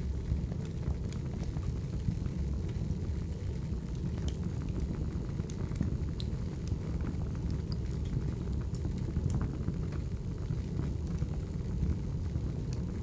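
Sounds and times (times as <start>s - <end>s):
fire crackling and popping: 0.0s - 13.0s
fire flames rumbling: 0.0s - 13.0s.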